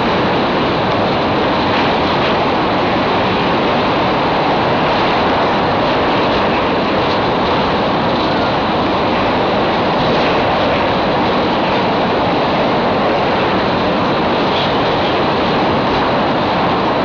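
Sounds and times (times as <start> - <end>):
train wheel and wind noise: 0.0 - 17.0.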